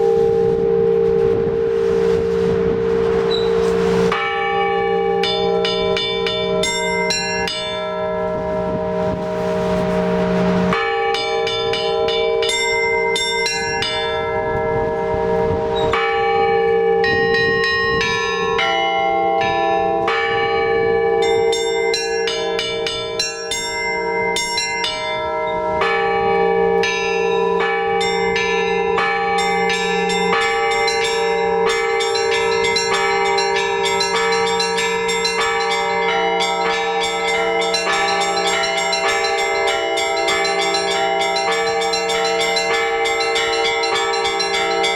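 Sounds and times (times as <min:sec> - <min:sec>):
deep bells humming: 0:00.0 - 0:44.9
small high bells pealing: 0:03.3 - 0:08.4, 0:09.4 - 0:44.9.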